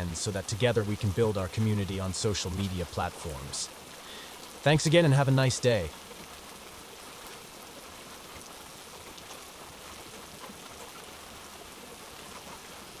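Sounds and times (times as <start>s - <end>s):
faint raindrop ticks: 0.0s - 13.0s
steady rain hiss: 0.0s - 13.0s.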